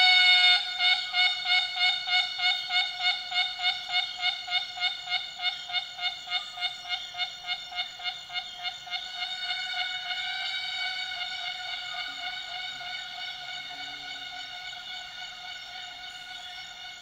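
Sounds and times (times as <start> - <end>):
cicada sawing song: 0.0 - 17.0.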